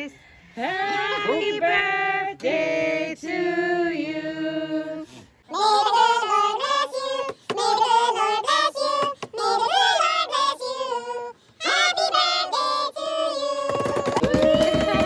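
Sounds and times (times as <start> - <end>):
group singing together: 0.6 - 14.3.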